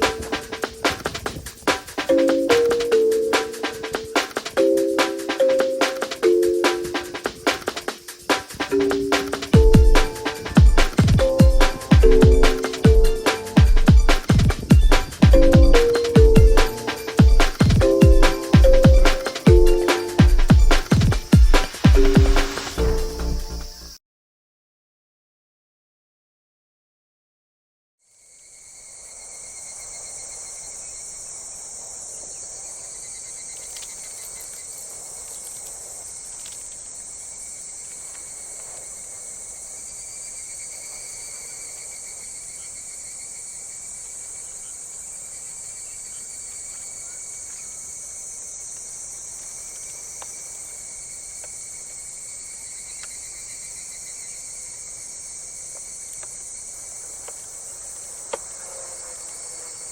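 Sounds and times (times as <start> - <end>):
insects chirring: 0.0 - 24.0, 28.0 - 59.9
pulsing insect trills: 0.0 - 24.0, 28.0 - 59.9.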